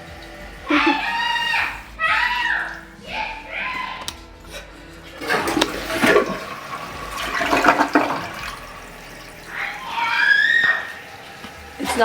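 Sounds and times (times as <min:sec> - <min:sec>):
toilet flushing: 0:00.0 - 0:12.0.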